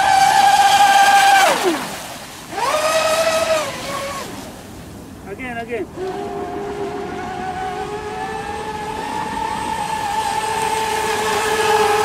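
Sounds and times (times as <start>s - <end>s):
model boat motor whining: 0.0s - 4.8s, 5.8s - 12.0s.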